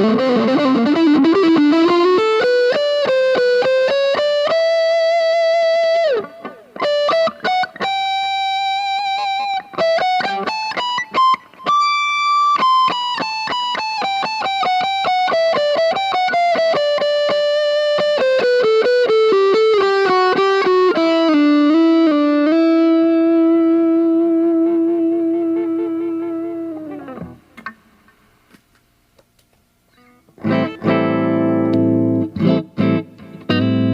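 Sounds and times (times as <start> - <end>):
electric guitar lead line: 0.0 - 27.8, 29.9 - 33.9.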